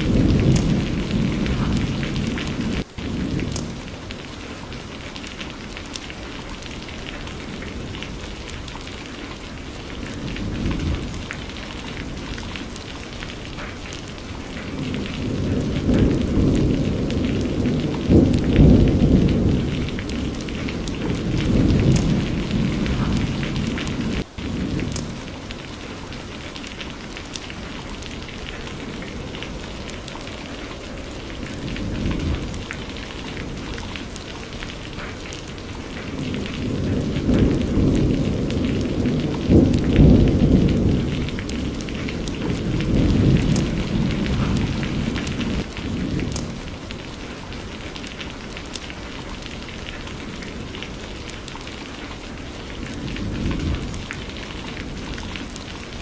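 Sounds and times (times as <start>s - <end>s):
rolling thunder rumbling: 0.0s - 56.0s
steady rain falling: 0.0s - 56.0s.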